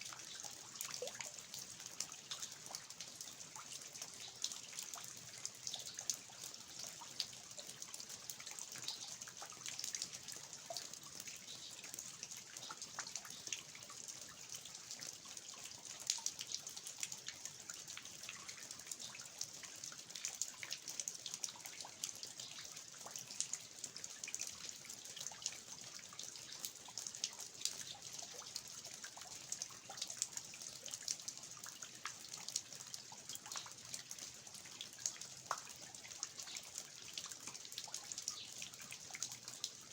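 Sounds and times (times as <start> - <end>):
steady rain falling: 0.0 - 39.9
water dripping from eaves: 0.0 - 39.9.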